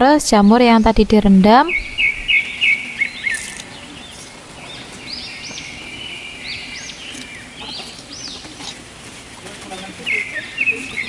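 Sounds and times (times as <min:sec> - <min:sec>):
birds chirping and singing: 0:01.5 - 0:11.0.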